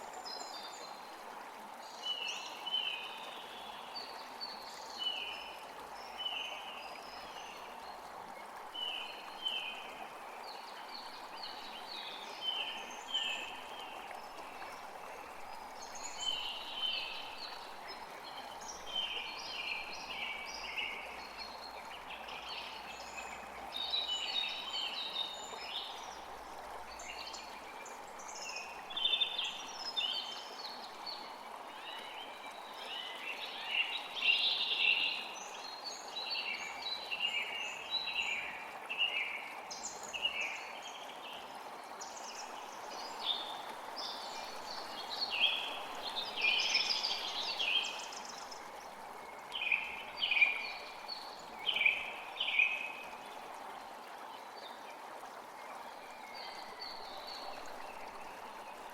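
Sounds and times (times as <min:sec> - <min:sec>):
creek flowing: 0:00.0 - 0:58.9
songbirds chirping: 0:08.8 - 0:58.9.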